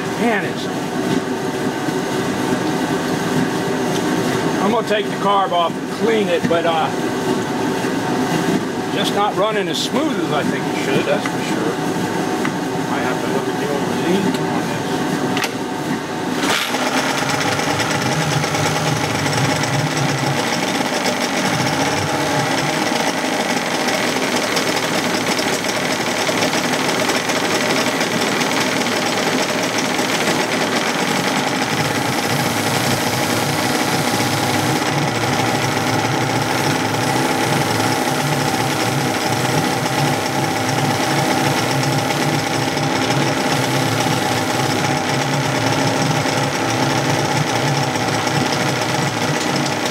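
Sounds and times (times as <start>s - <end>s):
outboard motor running roughly: 0.0s - 49.9s.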